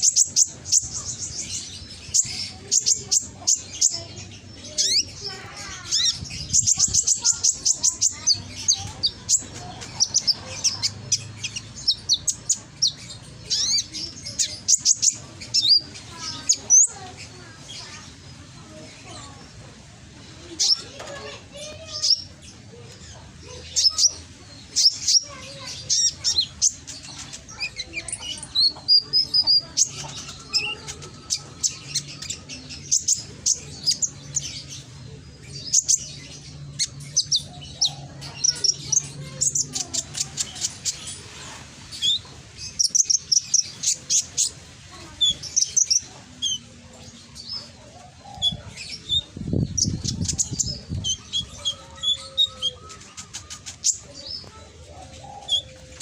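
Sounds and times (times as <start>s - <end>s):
sunbird chirping and trilling: 0.0s - 56.0s.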